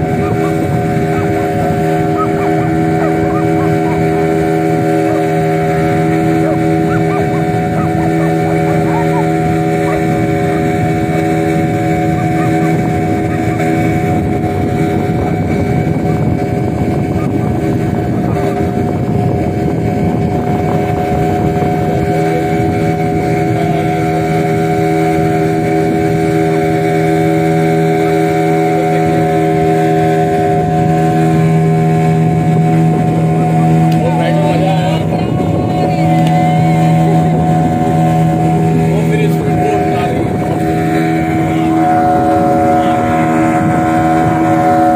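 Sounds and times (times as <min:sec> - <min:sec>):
motorboat engine running: 0:00.0 - 0:44.9.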